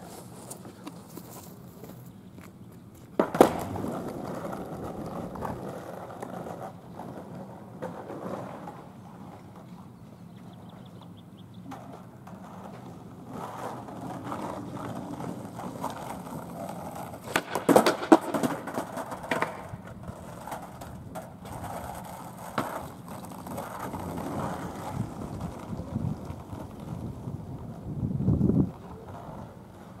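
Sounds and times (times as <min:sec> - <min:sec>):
skateboard wheels rolling on asphalt: 0:00.0 - 0:30.0
skateboard clacks and knocks: 0:03.2 - 0:10.0, 0:11.6 - 0:30.0.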